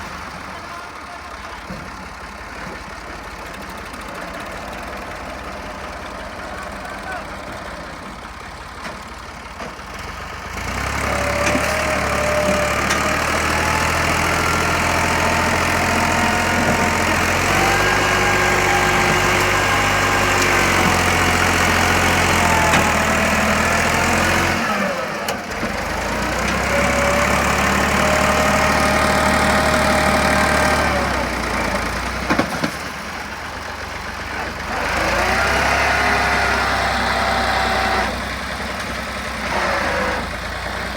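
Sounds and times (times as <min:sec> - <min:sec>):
tractor engine labouring: 0:00.0 - 0:40.9.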